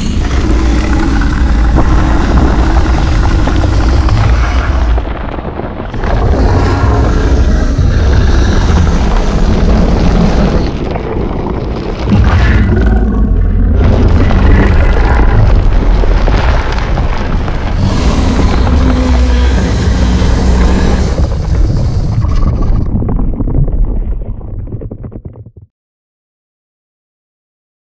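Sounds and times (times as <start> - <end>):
monster roar with growling: 0.0 - 22.8.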